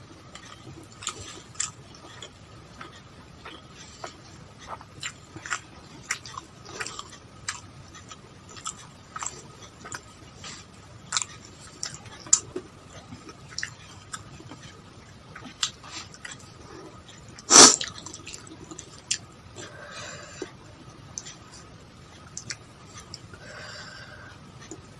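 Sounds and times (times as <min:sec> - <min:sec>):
person chewing food: 0:00.0 - 0:24.9.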